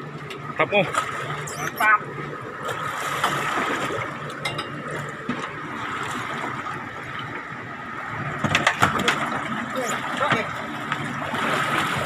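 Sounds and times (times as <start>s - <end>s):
boat machinery hum: 0.0s - 12.0s
water sloshing against hull: 0.0s - 12.0s.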